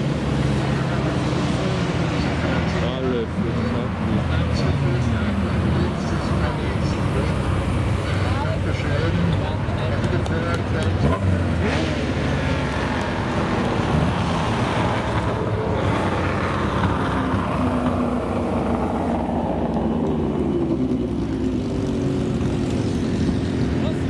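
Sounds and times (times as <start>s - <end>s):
racing car engine running hard: 0.0s - 24.0s.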